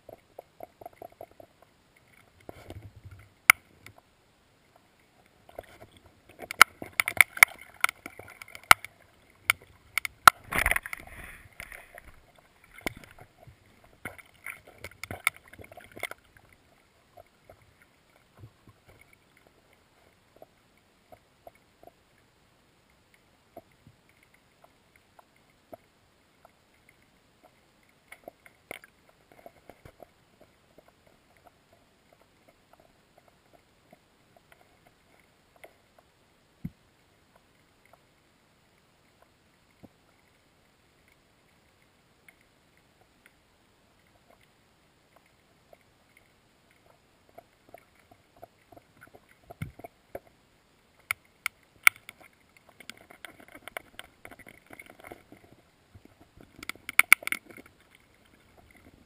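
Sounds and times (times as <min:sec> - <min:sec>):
muffled underwater clicks and knocks: 0:00.0 - 0:04.1, 0:04.7 - 0:22.0, 0:23.1 - 0:38.0, 0:44.0 - 0:50.4, 0:51.0 - 0:59.0.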